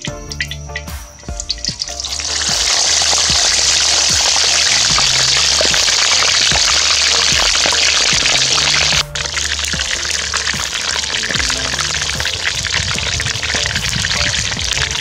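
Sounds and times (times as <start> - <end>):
background music with low beat: 0.0 - 15.0
chicken sizzling in hot oil: 2.0 - 15.0.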